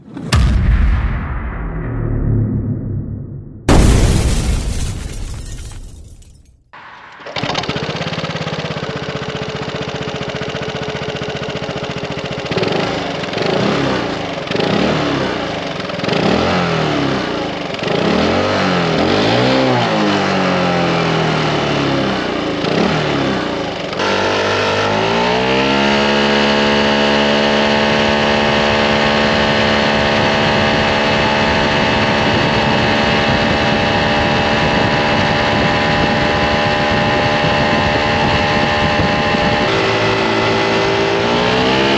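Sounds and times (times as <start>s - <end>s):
scooter engine idling and revving: 7.3s - 41.9s.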